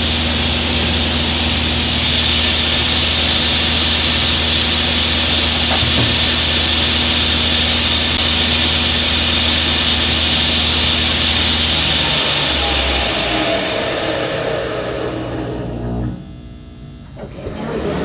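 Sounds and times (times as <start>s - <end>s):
table saw running: 0.0s - 16.4s, 17.1s - 18.0s.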